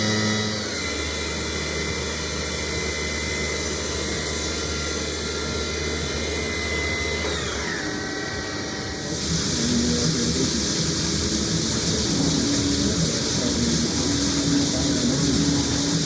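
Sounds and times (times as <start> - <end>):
machine motor whine: 0.0 - 16.0.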